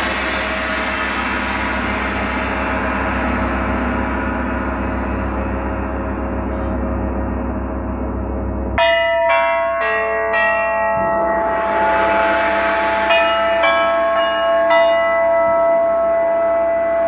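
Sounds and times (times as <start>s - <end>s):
large gong ringing: 0.0s - 17.0s.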